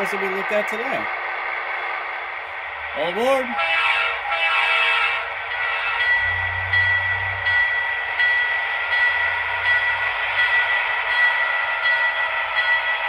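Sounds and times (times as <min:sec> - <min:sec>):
high whine: 0:00.0 - 0:13.0
model locomotive diesel engine sound: 0:00.0 - 0:13.0.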